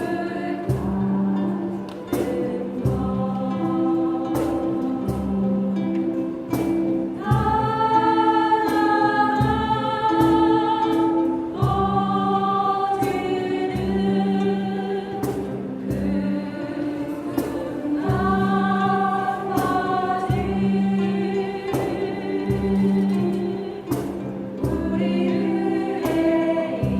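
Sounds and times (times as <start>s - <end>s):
group singing in unison: 0.0s - 26.9s
instrumental music with steady beat: 0.0s - 26.9s.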